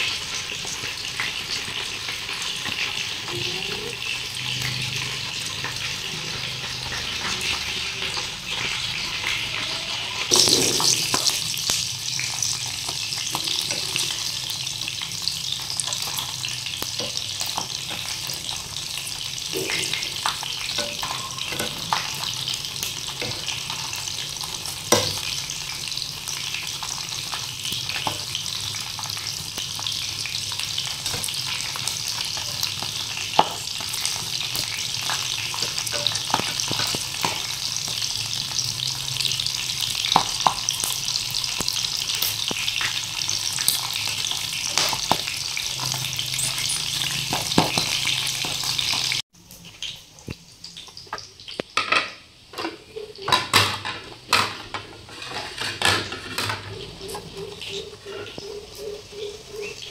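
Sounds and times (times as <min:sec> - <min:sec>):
sausages sizzling in oil: 0:00.0 - 0:59.9.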